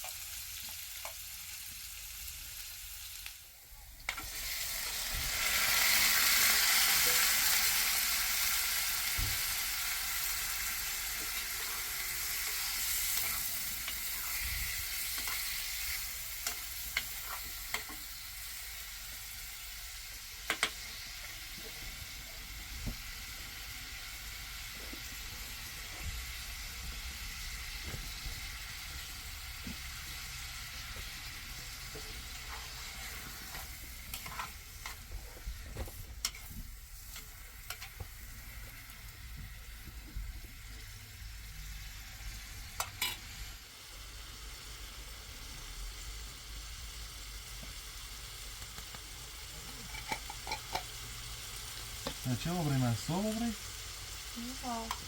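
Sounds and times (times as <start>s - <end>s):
steady hissing noise: 0.0s - 55.0s.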